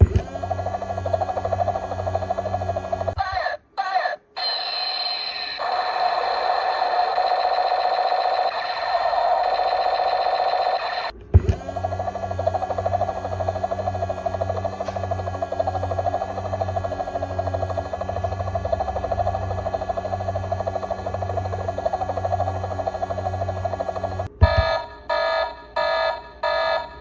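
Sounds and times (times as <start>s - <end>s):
toy helicopter rotor sound effect: 0.0s - 24.8s.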